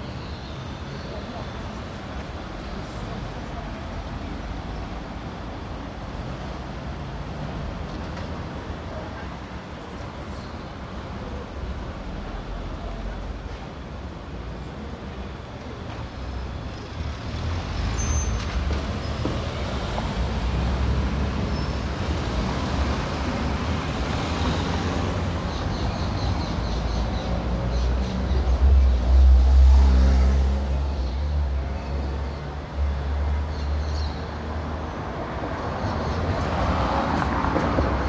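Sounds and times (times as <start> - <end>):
passing traffic rumble: 0.6 - 38.0.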